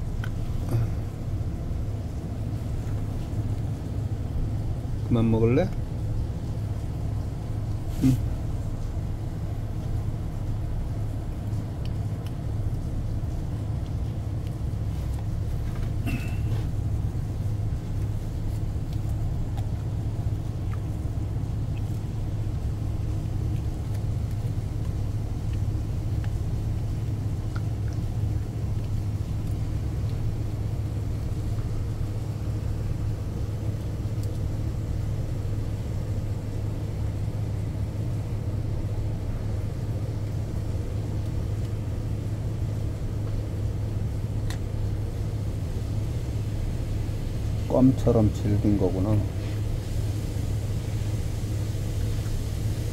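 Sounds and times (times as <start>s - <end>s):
ship machinery humming: 0.0s - 52.9s.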